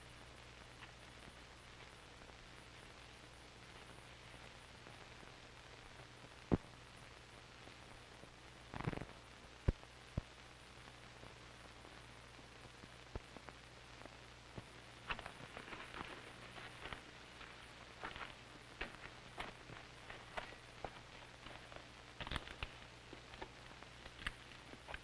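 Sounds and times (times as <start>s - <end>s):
film soundtrack hum and hiss: 0.0s - 25.0s
light crackles: 0.0s - 25.0s.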